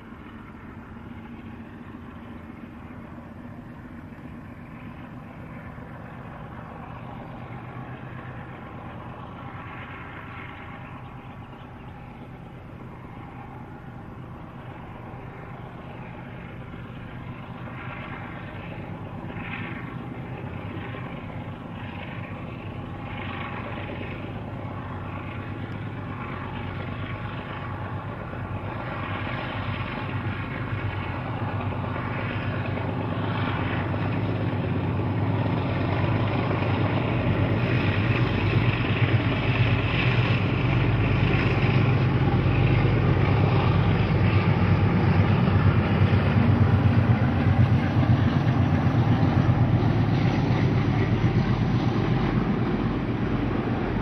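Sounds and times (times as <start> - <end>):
diesel locomotive engines: 0.0 - 54.0.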